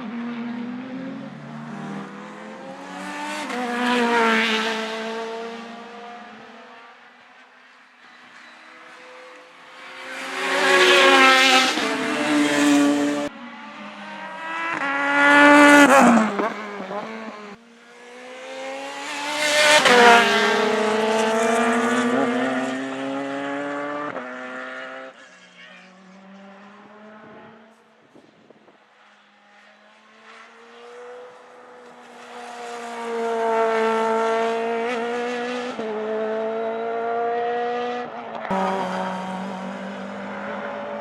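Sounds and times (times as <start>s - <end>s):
racing cars passing: 0.0s - 41.0s.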